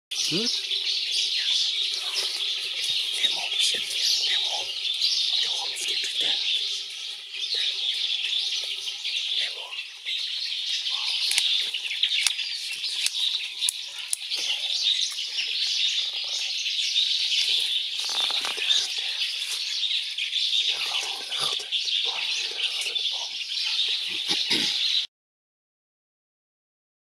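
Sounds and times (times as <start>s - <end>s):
birds chirping: 0.1s - 25.1s.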